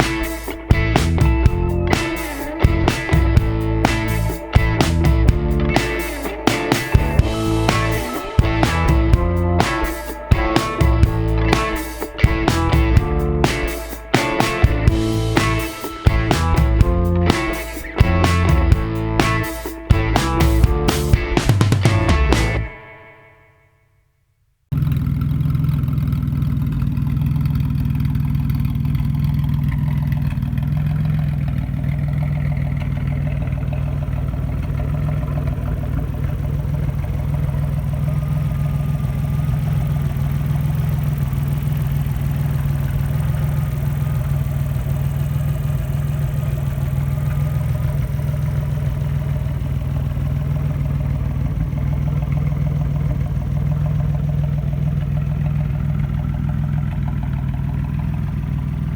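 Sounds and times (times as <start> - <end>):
engine running steadily: 0.0 - 22.7, 24.7 - 58.9.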